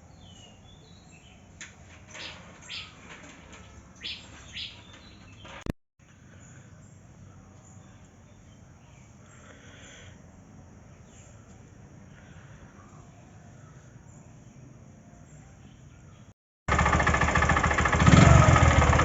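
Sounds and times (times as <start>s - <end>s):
birds chirping faintly: 0.0s - 16.4s.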